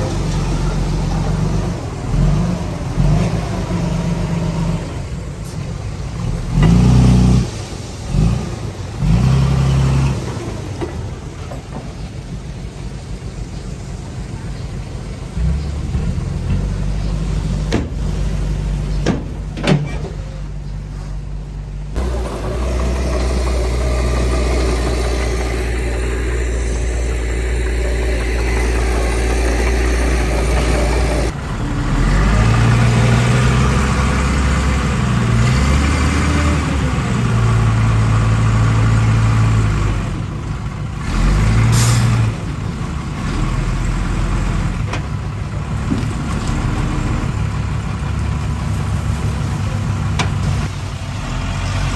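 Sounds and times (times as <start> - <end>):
diesel machinery engines under load: 0.0 - 51.9.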